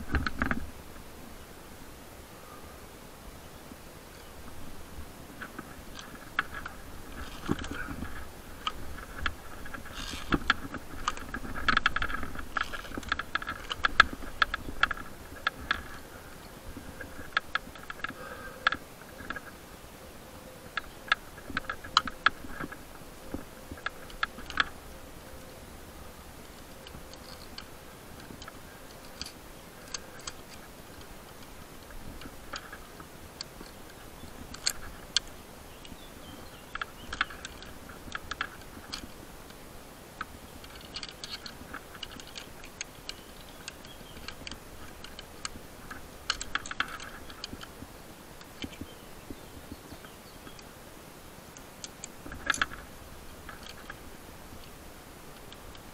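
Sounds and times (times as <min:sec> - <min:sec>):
climbing gear clicking and clinking: 0:04.1 - 0:19.6, 0:20.7 - 0:25.7, 0:26.4 - 0:50.8, 0:51.5 - 0:55.9.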